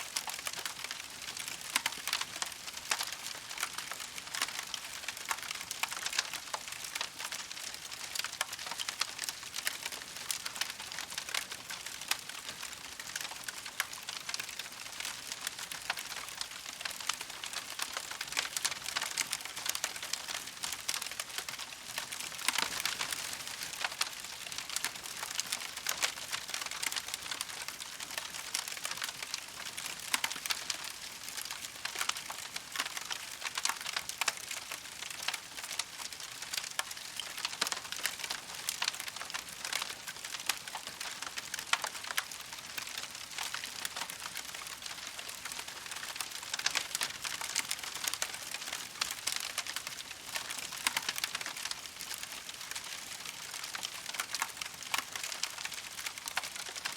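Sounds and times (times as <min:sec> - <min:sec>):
campfire crackling and popping: 0:00.1 - 0:56.9.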